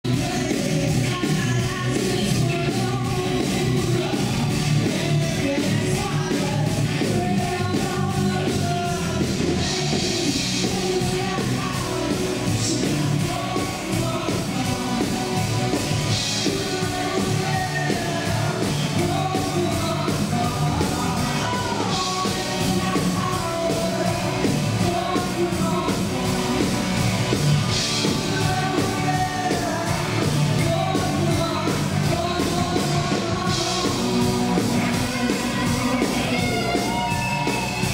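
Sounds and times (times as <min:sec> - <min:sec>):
electric guitar: 0:00.0 - 0:37.9
woman singing: 0:00.1 - 0:26.9, 0:27.7 - 0:37.9.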